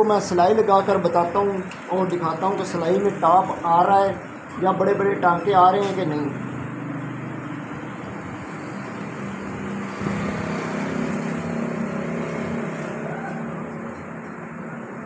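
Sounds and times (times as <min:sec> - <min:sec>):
road traffic: 0:00.0 - 0:15.0
vehicle engine hum: 0:00.0 - 0:15.0.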